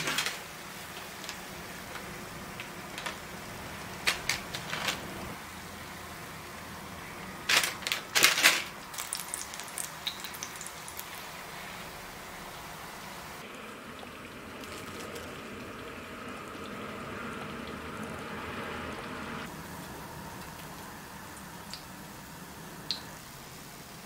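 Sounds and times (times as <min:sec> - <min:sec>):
oil sizzling in a pan: 0:00.0 - 0:07.5, 0:08.7 - 0:24.0.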